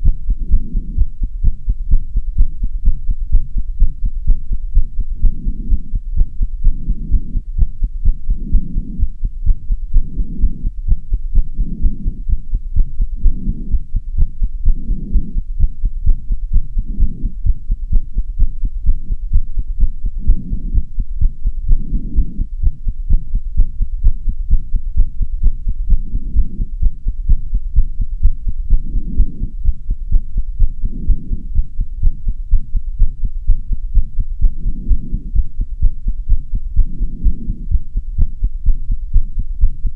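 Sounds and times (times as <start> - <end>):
fast heartbeat thumps: 0.0 - 39.9.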